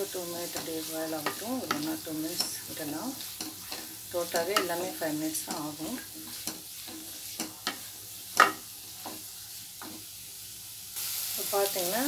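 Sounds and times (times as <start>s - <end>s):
faint frying sizzle: 0.0s - 12.0s
loud steady hiss: 0.0s - 12.0s
spatula scraping and knocking pan: 0.4s - 10.1s.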